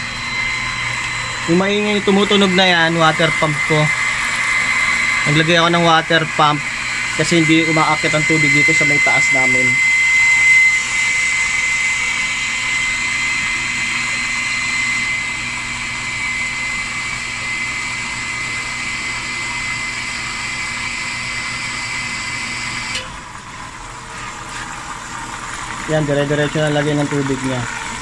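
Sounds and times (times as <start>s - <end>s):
water hissing into washing machine: 0.0s - 28.0s
water pump motor whine: 0.0s - 28.0s.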